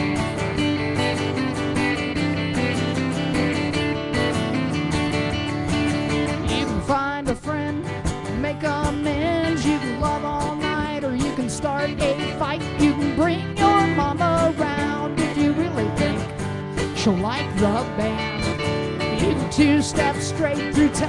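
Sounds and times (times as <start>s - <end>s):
acoustic guitars strummed: 0.0s - 21.0s
electric bass: 0.0s - 21.0s.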